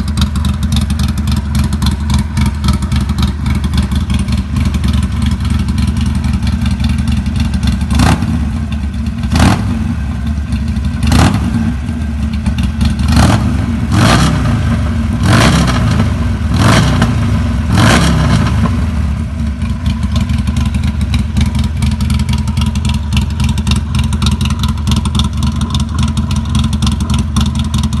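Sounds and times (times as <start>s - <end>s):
motorcycle engine idling: 0.0s - 28.0s
motorcycle engine revving: 0.0s - 28.0s.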